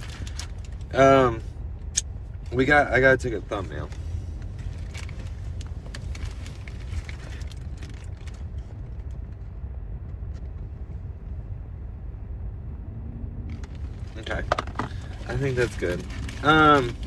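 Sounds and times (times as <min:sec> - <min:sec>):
car idling: 0:00.0 - 0:17.0.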